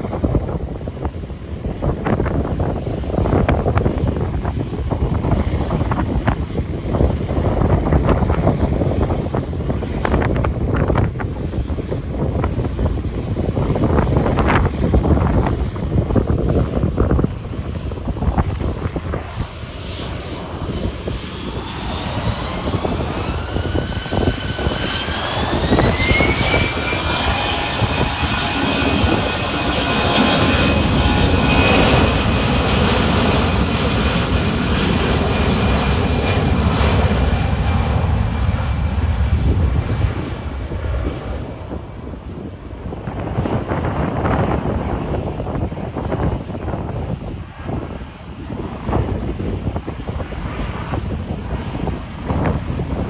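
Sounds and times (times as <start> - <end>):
jet engines spooling up: 0.0 - 53.0
wind buffeting microphone: 0.0 - 53.0.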